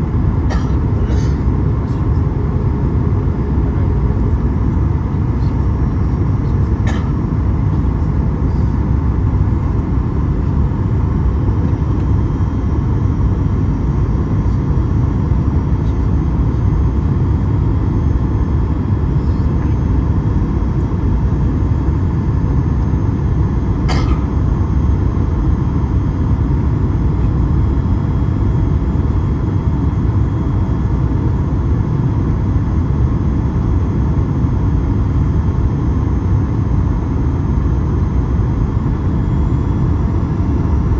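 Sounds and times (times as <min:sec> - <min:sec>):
aircraft cabin engine roar: 0:00.0 - 0:40.9.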